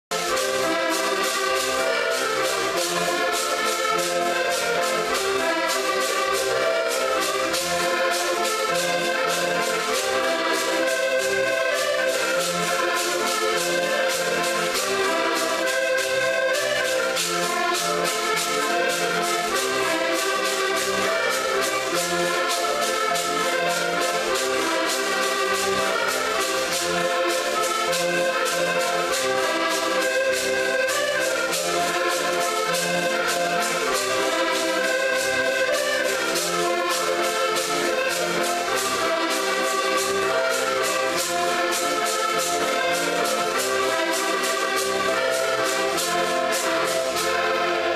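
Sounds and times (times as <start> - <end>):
button accordions playing folk tune: 0.0 - 47.9
fast rhythmic clicks: 0.1 - 47.9.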